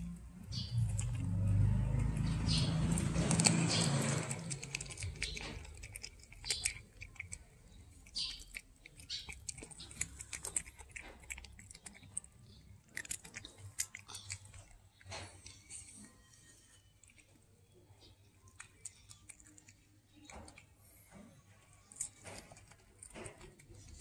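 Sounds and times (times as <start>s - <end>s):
cat chewing fish: 0.0s - 24.0s.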